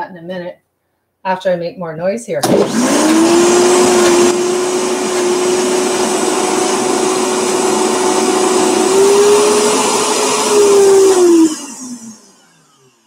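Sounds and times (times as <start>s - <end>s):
blender running: 2.4s - 13.0s.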